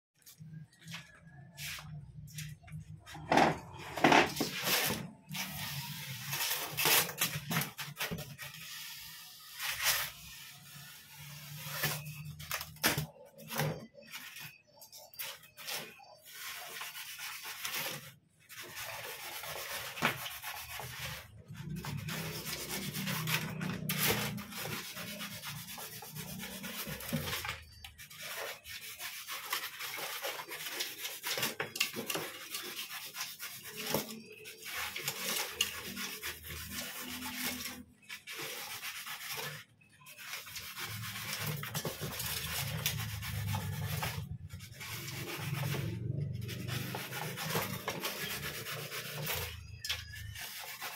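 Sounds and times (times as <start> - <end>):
knife sawing through styrofoam: 4.3 - 50.9.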